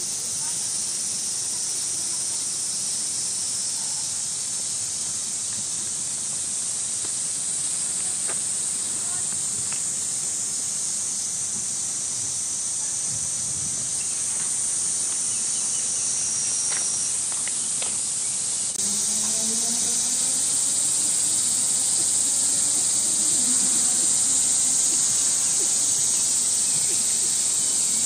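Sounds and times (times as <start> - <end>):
cicadas singing: 0.0 - 28.0.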